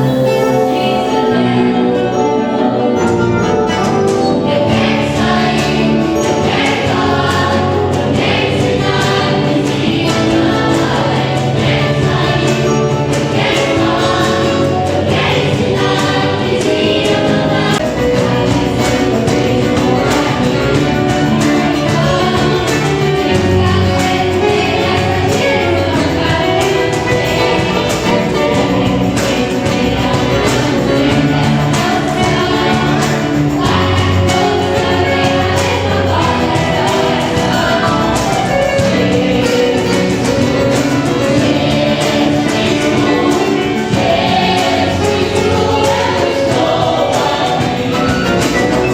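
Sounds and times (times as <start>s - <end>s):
choir singing: 0.0s - 48.9s
instrumental accompaniment: 0.0s - 48.9s.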